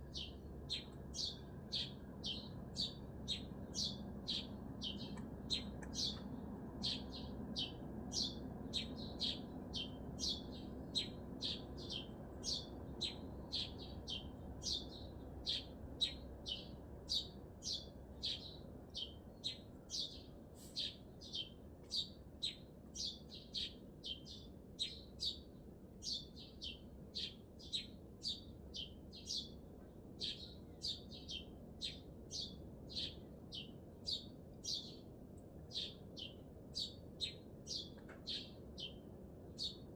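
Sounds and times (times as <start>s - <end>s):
city traffic hum: 0.0s - 39.9s
songbird shrill chirp: 0.0s - 39.9s.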